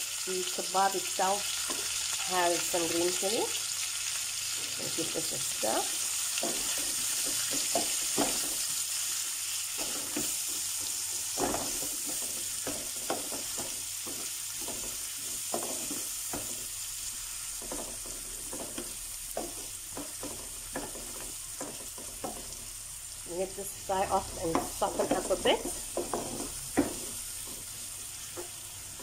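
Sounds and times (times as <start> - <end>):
onions sizzling in hot oil: 0.0 - 29.0
wooden spoon scraping a pan: 4.5 - 22.7, 23.4 - 29.0.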